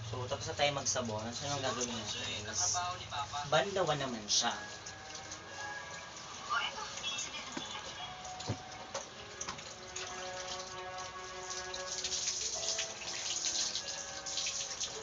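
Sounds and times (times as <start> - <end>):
water pouring and splashing: 0.0 - 15.0.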